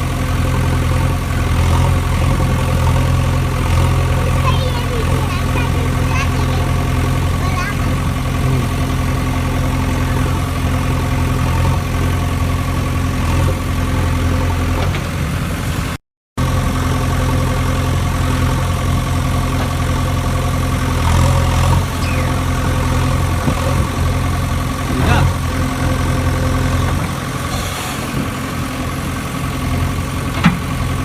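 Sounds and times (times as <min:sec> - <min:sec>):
engine idling with low hum: 0:00.0 - 0:31.0.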